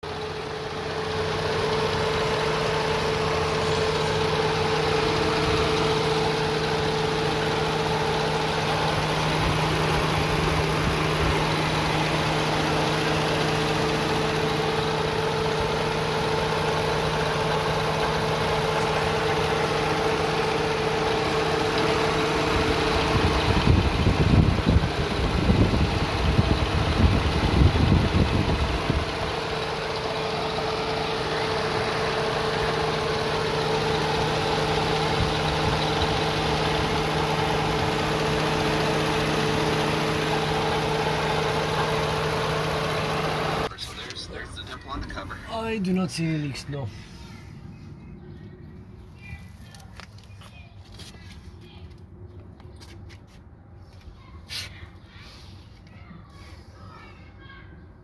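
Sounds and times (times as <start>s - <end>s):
car engine idling: 0.0s - 52.1s.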